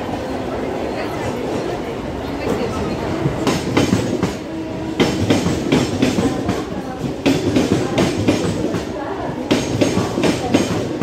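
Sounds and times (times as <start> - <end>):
train coaches rumbling: 0.0 - 11.0.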